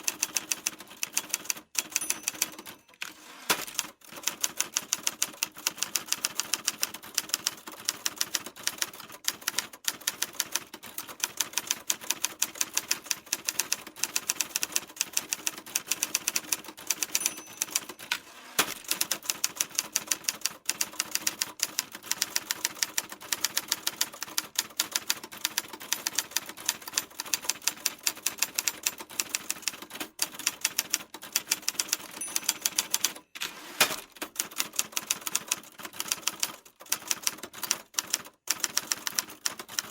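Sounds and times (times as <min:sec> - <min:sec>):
typewriter keys clacking: 0:00.0 - 0:39.9.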